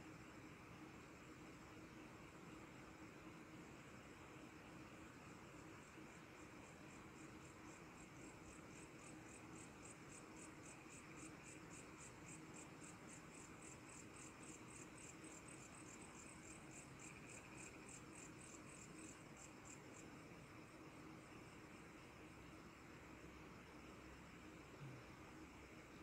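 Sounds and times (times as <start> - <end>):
cricket chirping: 0.0 - 26.0
faint steady hum: 0.0 - 26.0.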